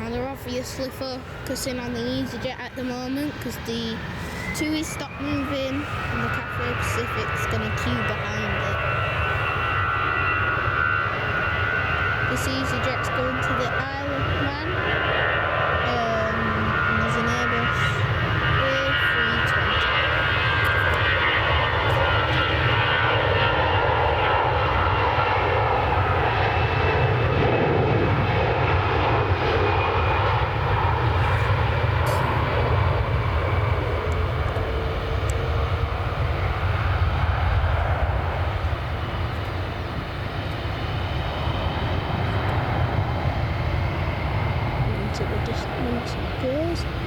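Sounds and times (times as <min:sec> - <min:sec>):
high engine whine: 0:00.0 - 0:47.0
loud jet engine rumble: 0:00.0 - 0:47.0.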